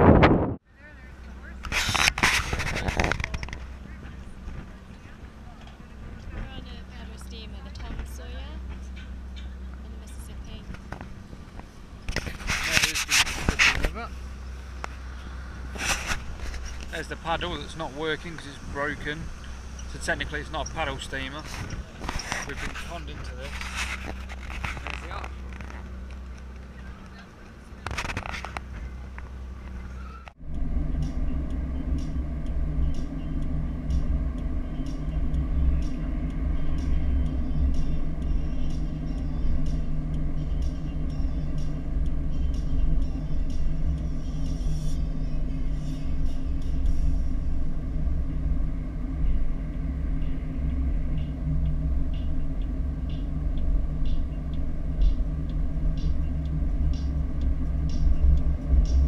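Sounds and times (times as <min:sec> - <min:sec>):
tyre and engine rumble: 0:00.0 - 0:59.0.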